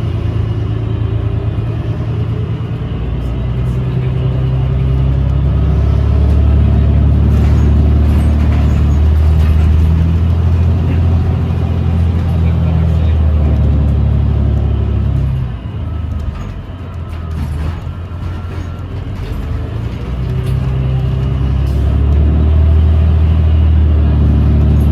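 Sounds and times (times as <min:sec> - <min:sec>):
bus drivetrain drone: 0:00.0 - 0:24.9.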